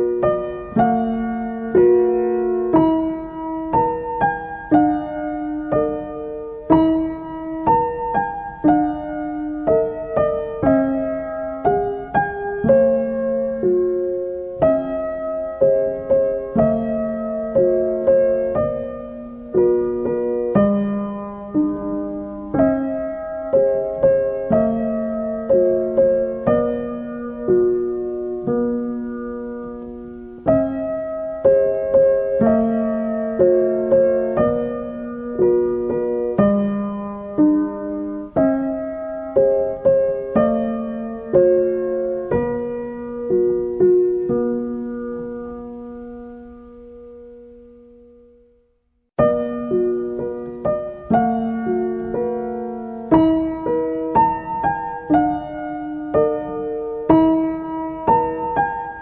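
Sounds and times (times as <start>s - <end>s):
gentle piano melody: 0.0s - 59.0s.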